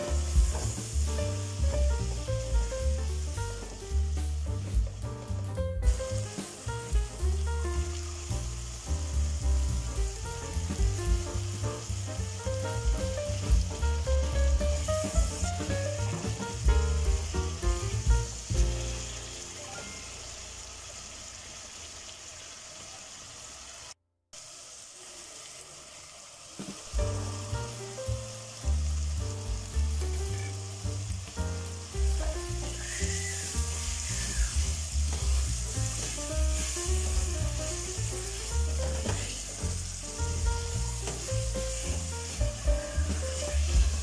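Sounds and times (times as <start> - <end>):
background music with bass line: 0.0 - 19.4, 27.0 - 44.0
sauce sizzling in oil: 0.0 - 44.0.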